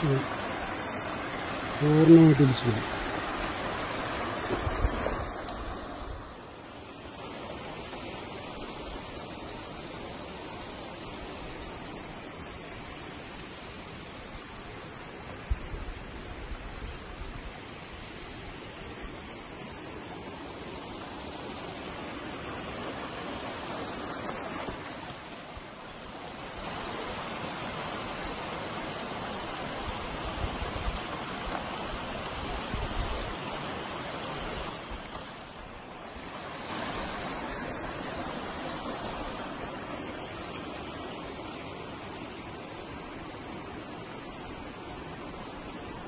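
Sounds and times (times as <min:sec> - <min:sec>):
stream running over rocks: 0:00.0 - 0:46.0.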